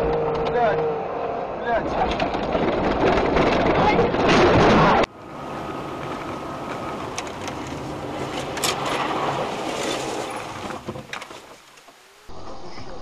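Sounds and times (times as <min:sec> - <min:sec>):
car road and engine noise: 0:00.0 - 0:12.4.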